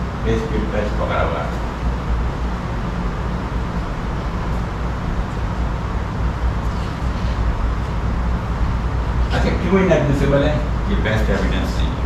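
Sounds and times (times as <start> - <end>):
air conditioner hum: 0.0 - 12.0.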